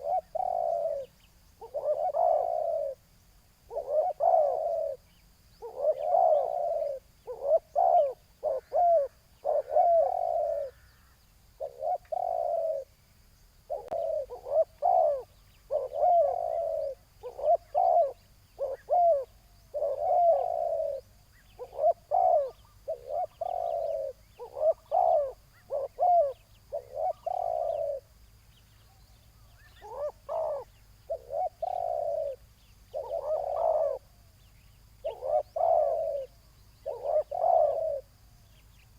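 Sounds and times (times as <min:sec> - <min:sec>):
doves cooing: 0:00.0 - 0:03.1, 0:03.7 - 0:13.0, 0:13.7 - 0:28.2, 0:29.6 - 0:34.2, 0:34.9 - 0:38.2.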